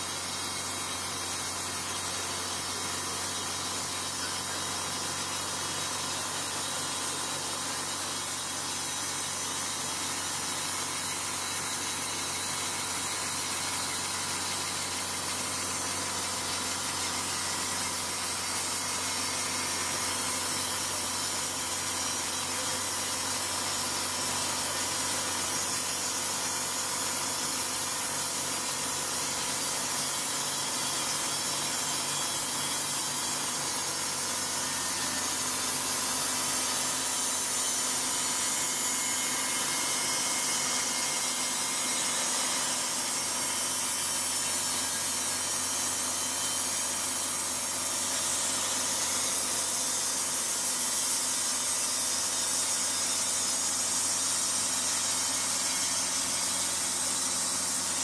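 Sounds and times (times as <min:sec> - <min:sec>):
band sawmill cutting log: 0:00.0 - 0:58.0.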